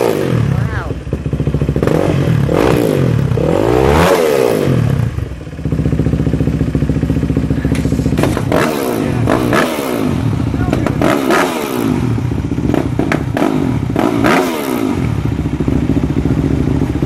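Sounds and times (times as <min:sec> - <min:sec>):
dirt bike engine revving and idling: 0:00.0 - 0:17.0.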